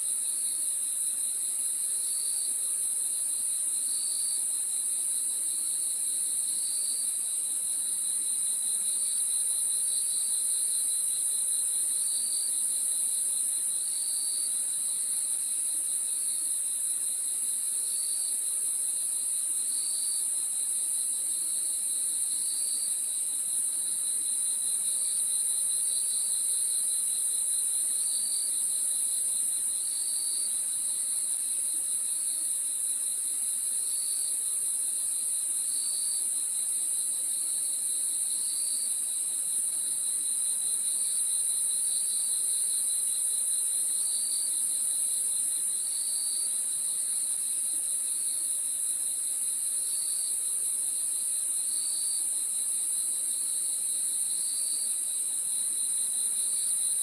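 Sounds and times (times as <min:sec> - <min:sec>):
lower cricket chirps: 0:00.0 - 0:57.0
crickets trilling: 0:01.7 - 0:57.0.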